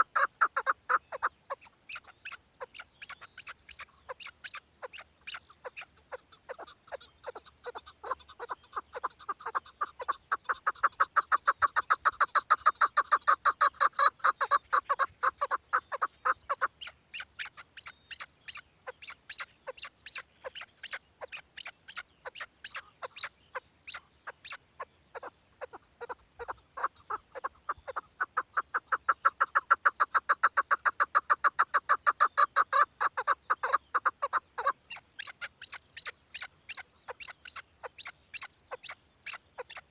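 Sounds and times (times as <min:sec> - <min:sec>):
partridge clucking calls: 0:00.0 - 0:39.9.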